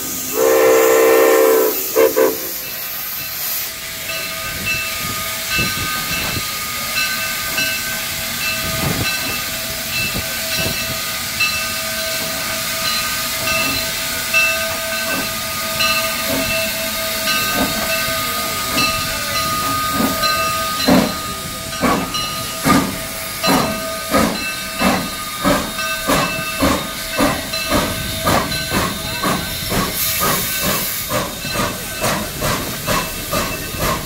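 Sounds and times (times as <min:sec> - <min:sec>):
steam hissing: 0:00.0 - 0:34.0
steam locomotive chuffing: 0:00.0 - 0:34.0.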